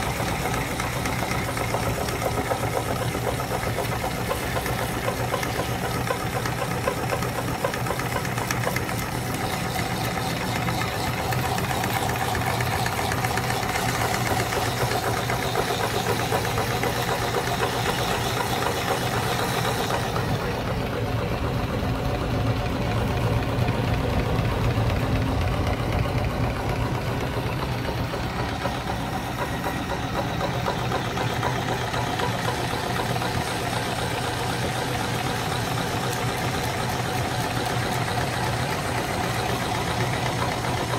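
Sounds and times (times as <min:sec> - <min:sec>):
electric meat grinder running: 0:00.0 - 0:40.9.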